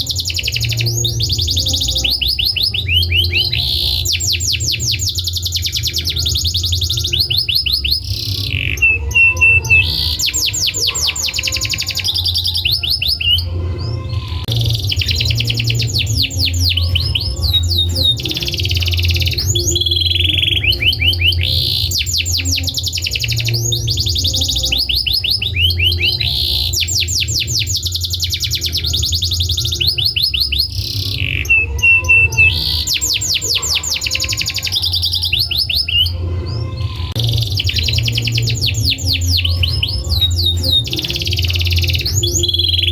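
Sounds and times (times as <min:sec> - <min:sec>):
low hum: 0:00.0 - 0:35.3, 0:36.0 - 0:42.9
canary singing trills: 0:00.0 - 0:42.9.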